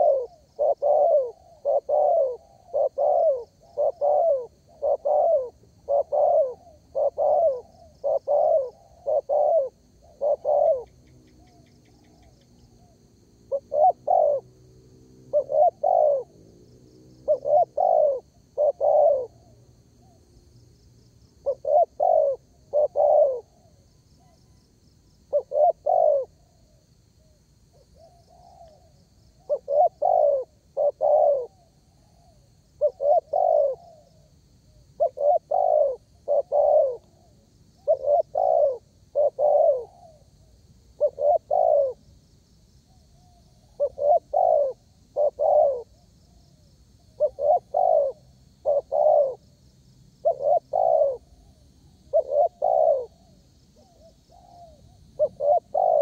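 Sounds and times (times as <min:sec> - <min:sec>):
faint high chirping: 0:00.0 - 0:14.6, 0:17.2 - 0:56.0
dove cooing: 0:00.0 - 0:16.5, 0:17.1 - 0:20.3, 0:21.4 - 0:24.6, 0:25.3 - 0:42.1, 0:42.9 - 0:49.6, 0:50.2 - 0:56.0.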